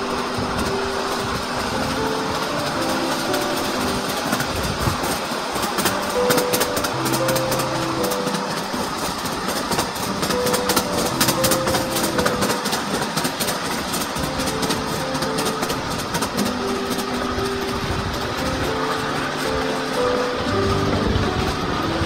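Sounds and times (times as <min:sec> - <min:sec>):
miniature train rumbling and rattling: 0:00.0 - 0:22.0
wheels clicking on rails: 0:00.0 - 0:22.0.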